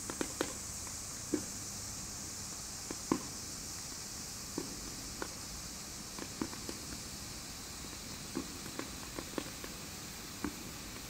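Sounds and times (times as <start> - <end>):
firework crackles and pops: 0.0 - 11.0
firework hissing: 0.0 - 11.0.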